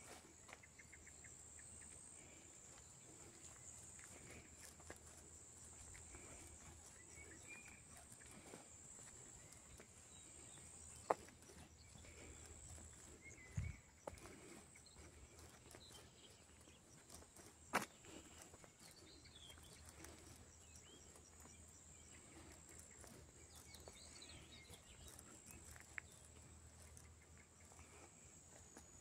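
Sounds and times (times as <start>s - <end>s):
soft bird chirps: 0.0s - 29.0s.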